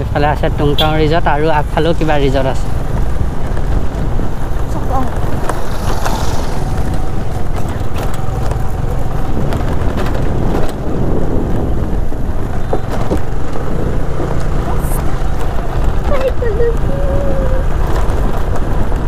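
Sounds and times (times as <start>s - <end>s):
scooter engine and road rumble: 0.0s - 19.0s
stones clicking under wheels: 1.5s - 19.0s.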